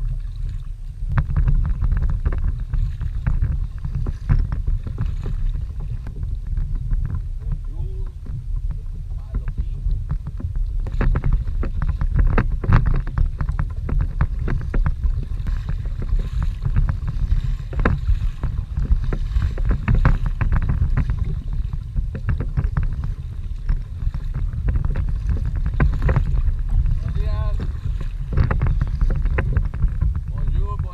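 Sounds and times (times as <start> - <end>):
water slapping against kayak hull: 0.0 - 30.9
wind buffeting microphone: 0.0 - 30.9.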